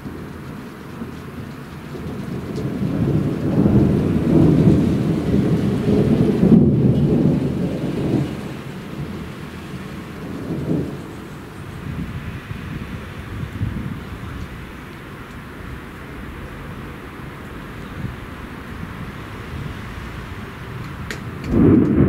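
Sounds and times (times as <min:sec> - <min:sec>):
rolling thunder: 0:01.8 - 0:22.0.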